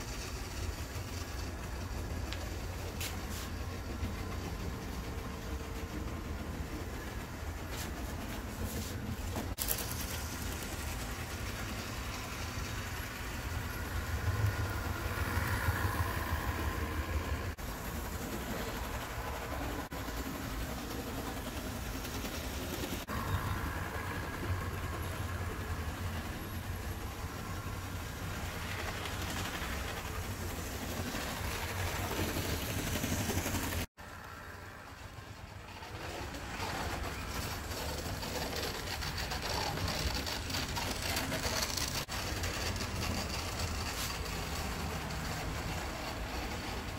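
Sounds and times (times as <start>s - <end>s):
model train motor hum: 0.0s - 46.9s.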